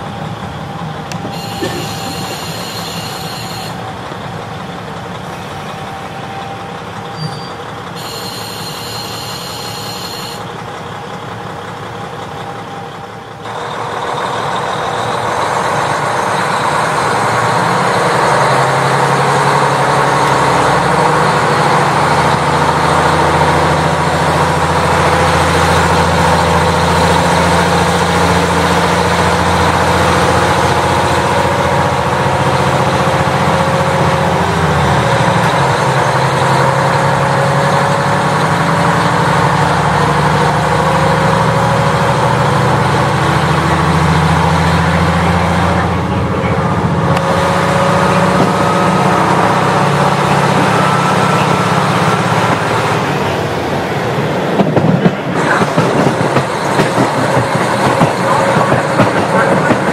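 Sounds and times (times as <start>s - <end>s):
diesel railcar engine running: 0.0s - 59.9s.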